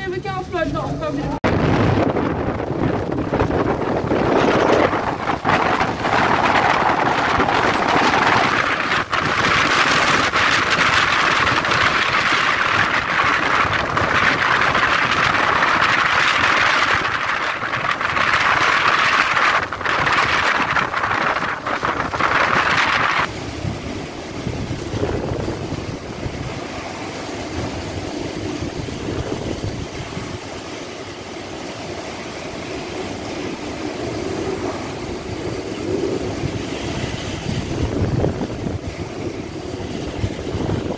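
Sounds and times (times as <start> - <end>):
wind-driven heavy rain: 0.0 - 40.9.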